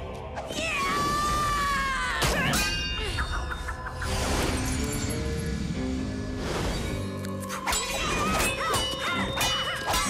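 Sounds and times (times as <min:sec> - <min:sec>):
action film score: 0:00.0 - 0:10.0.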